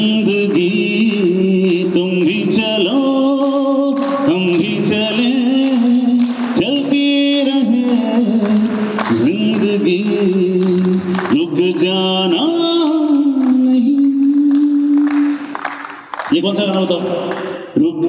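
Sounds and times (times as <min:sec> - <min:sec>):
man singing: 0:00.0 - 0:15.7, 0:16.3 - 0:18.0.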